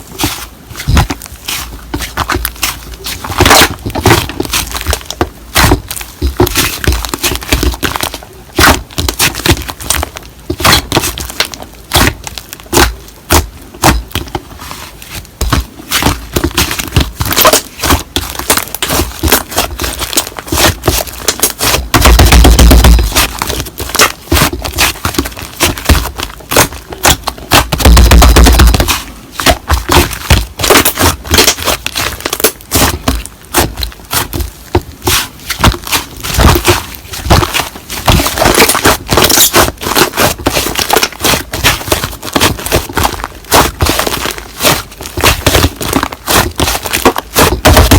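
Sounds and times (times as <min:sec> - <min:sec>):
slime squishing and popping: 0:00.0 - 0:47.9.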